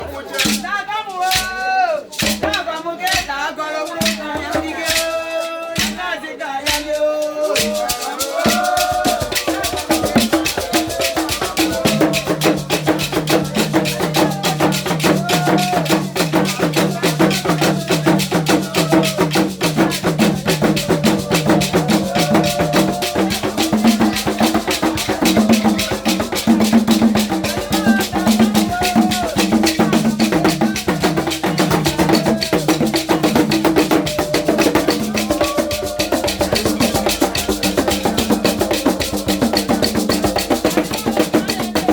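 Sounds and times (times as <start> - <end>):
fast steady drumming: 0.0 - 41.9
women singing a lament: 1.5 - 41.9.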